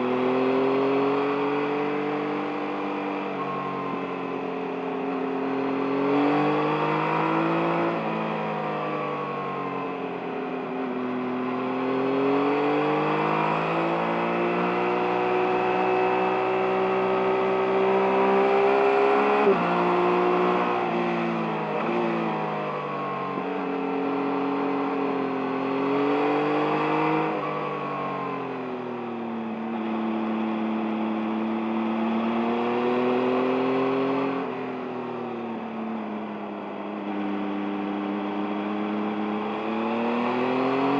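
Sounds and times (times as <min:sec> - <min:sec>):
motorcycle engine revving: 0:00.0 - 0:09.6, 0:10.7 - 0:40.9.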